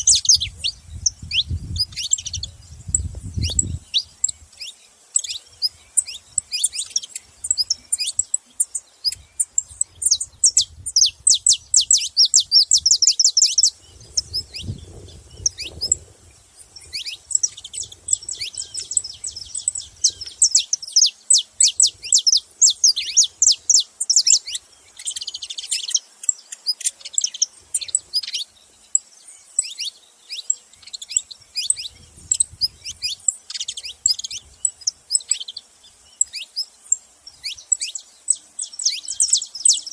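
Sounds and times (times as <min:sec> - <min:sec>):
finch singing rapid chirps: 0:00.0 - 0:39.9.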